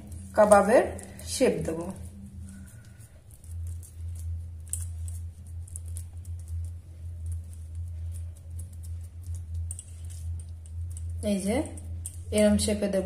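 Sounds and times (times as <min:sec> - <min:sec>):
hands patting wet mixture: 0:00.0 - 0:11.2
low hum: 0:00.0 - 0:13.0.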